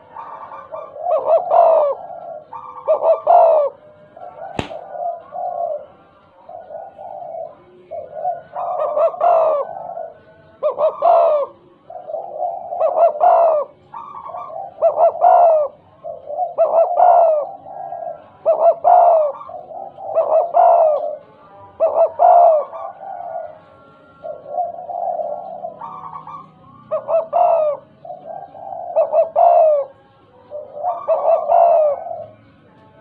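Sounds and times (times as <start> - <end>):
dove cooing: 0.0 - 32.7.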